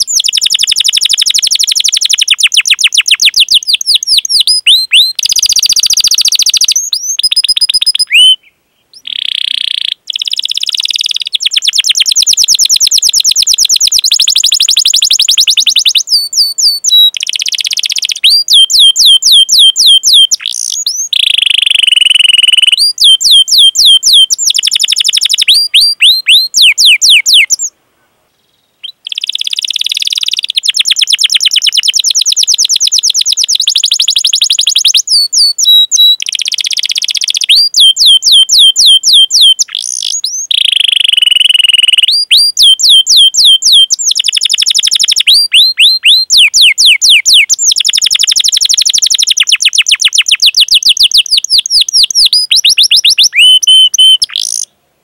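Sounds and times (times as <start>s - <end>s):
canary singing chirps and trills: 0.0s - 27.7s, 28.8s - 54.7s.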